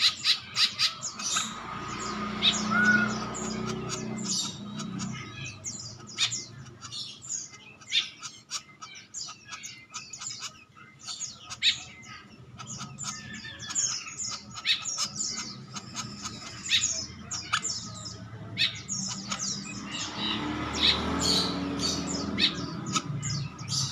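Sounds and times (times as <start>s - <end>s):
woodpecker calling: 0.0s - 23.9s.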